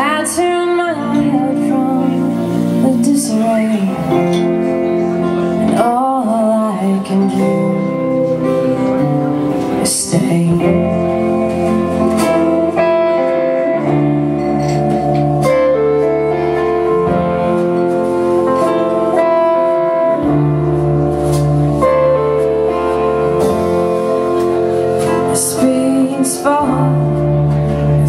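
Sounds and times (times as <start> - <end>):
bass line: 0.0 - 28.0
guitar sustained chords: 0.0 - 28.0.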